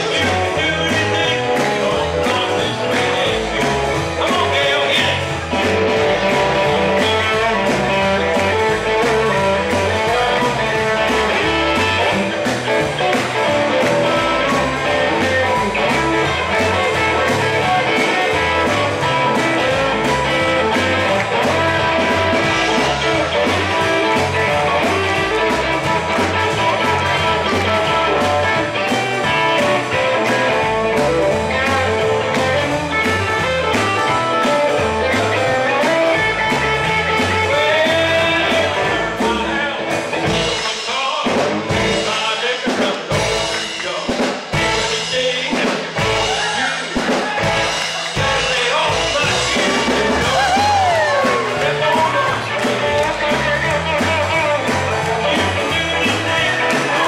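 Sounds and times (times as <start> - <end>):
bass line: 0.0 - 57.0
drum kit: 0.0 - 57.0
electric guitar: 0.0 - 57.0
keyboard: 0.0 - 57.0.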